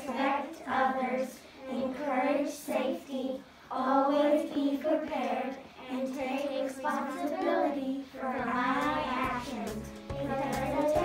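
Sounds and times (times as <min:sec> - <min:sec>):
girls reciting in unison: 0:00.0 - 0:11.0.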